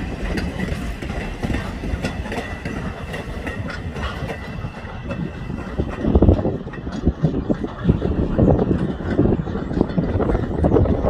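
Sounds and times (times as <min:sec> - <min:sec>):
train wheels clicking over joints: 0:00.0 - 0:11.0.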